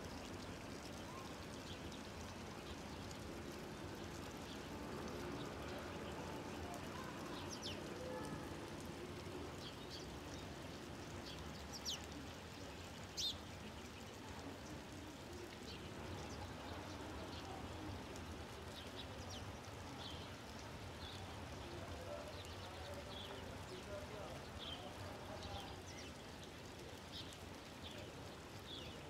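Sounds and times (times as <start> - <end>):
small birds chirping: 0.9 - 29.0.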